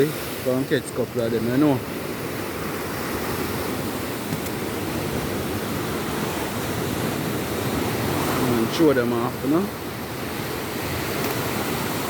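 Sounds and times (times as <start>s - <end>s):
rough choppy sea rushing: 0.0s - 12.0s.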